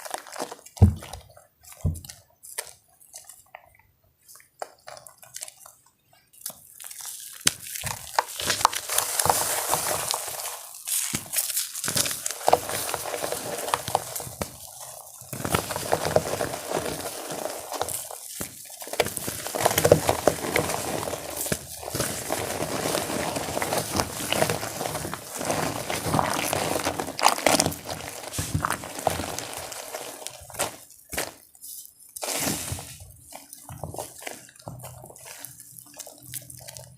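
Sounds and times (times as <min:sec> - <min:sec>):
chalk crushed and crumbled: 0:06.5 - 0:36.9.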